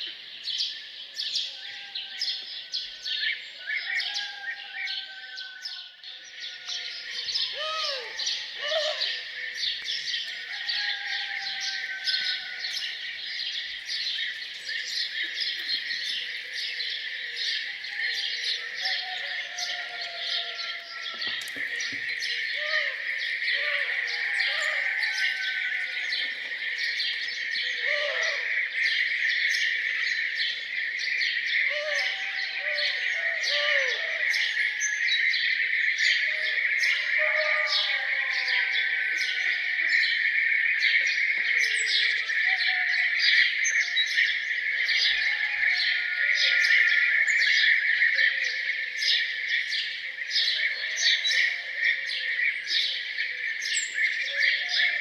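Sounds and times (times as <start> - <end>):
birds chirping and singing: 0.0 - 55.0
continuous high bird trill: 0.0 - 55.0.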